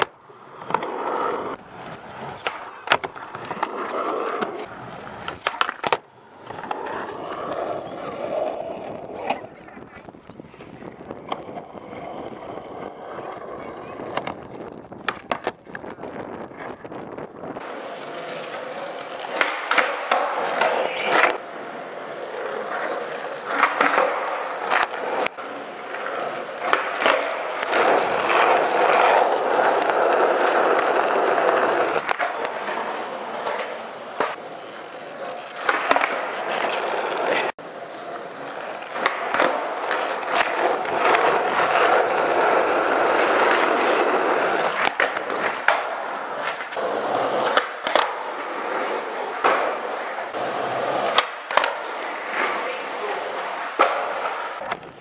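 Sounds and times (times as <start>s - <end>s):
skateboard clacks: 0.0s - 55.0s
skateboard wheels rolling: 0.0s - 55.0s.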